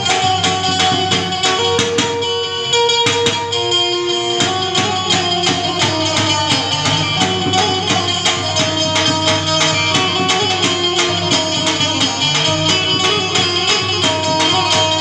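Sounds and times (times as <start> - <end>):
quick percussion beat: 0.0 - 2.3, 4.3 - 15.0
held melody notes: 0.0 - 15.0.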